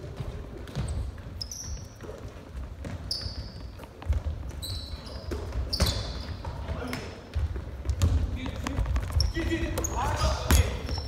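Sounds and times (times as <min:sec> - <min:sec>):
basketball bouncing on hardwood floor: 0:00.0 - 0:11.0
shoes squeaking on court: 0:00.0 - 0:11.0.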